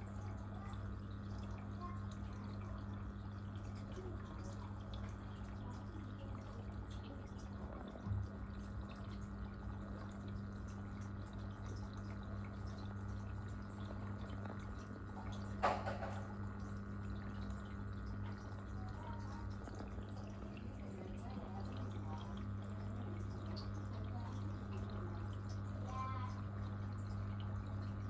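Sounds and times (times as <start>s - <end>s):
aquarium pump humming: 0.0s - 28.0s
water trickling and dripping: 0.0s - 28.0s.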